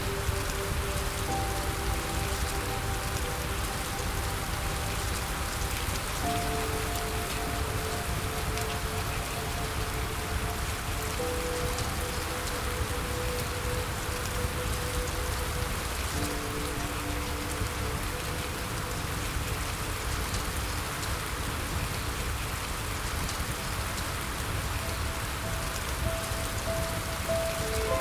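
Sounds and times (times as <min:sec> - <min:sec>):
soft music of held chords: 0:00.0 - 0:28.0
steady rain pattering: 0:00.0 - 0:28.0.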